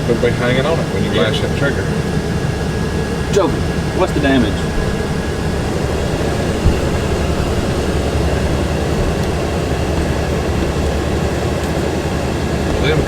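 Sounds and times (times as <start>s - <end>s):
low machinery drone: 0.0s - 13.0s.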